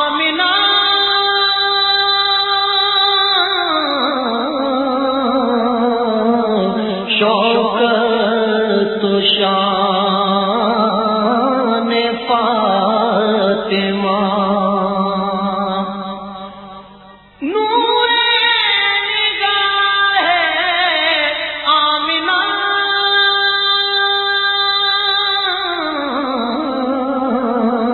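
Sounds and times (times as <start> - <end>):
devotional song sung with vibrato: 0.0 - 27.9.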